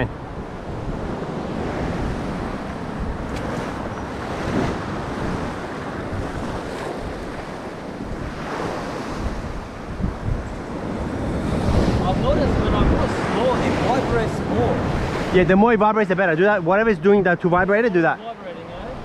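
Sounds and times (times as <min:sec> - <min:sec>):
wind buffeting the microphone: 0:00.0 - 0:17.7.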